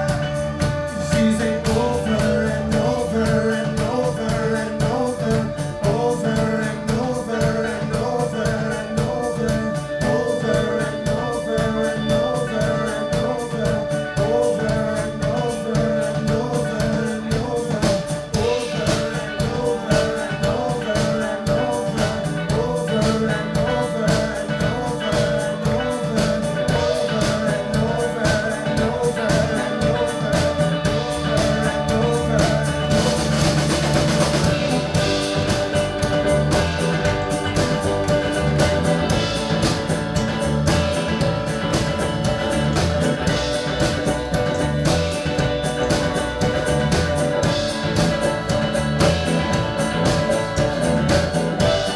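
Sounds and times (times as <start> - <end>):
drum kit: 0.0 - 51.9
live band playing: 0.0 - 51.9
person singing: 0.0 - 51.9.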